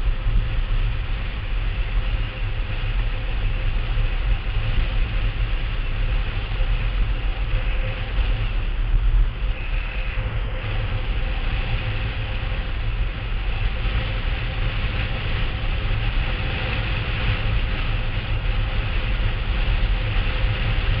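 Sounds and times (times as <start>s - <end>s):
faint steady hum: 0.0s - 21.0s
wheels rumbling on hard ground: 0.0s - 21.0s
wind buffeting microphone: 0.0s - 21.0s.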